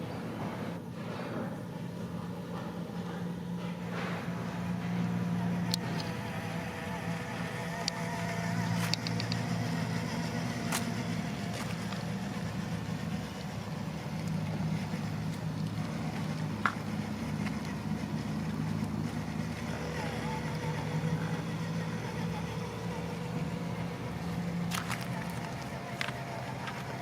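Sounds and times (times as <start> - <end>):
electric motor whirring: 4.5 - 27.0.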